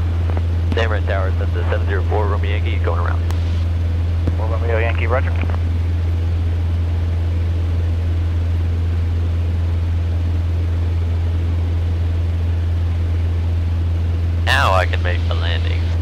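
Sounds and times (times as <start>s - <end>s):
airplane engine and propeller droning: 0.0s - 16.0s.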